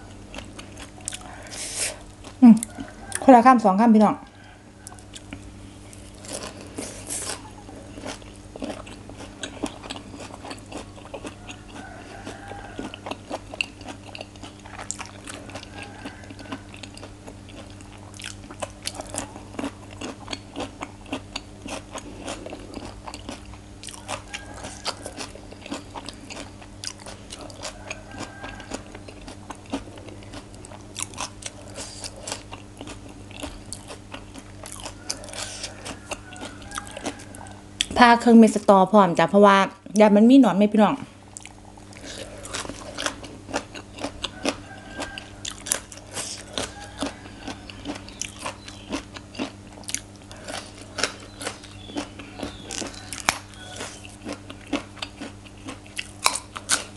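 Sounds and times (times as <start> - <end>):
crunching and chewing vegetables: 0.0 - 40.0, 40.7 - 56.9
low electrical hum: 0.0 - 56.9.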